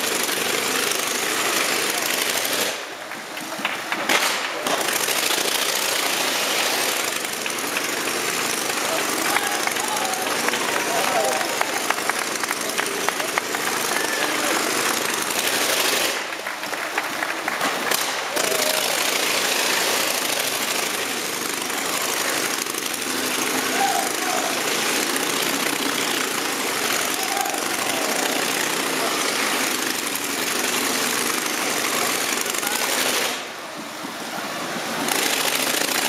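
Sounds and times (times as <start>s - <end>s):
motorcycle engine running hard: 0.0s - 36.0s.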